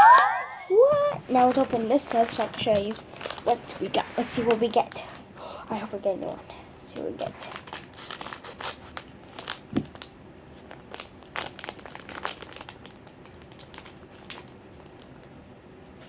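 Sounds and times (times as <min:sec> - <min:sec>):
plastic packaging crinkling: 0:01.2 - 0:15.3.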